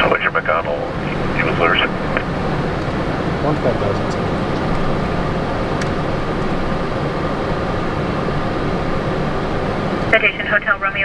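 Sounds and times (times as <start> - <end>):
jet engines and airflow rushing: 0.0 - 11.0.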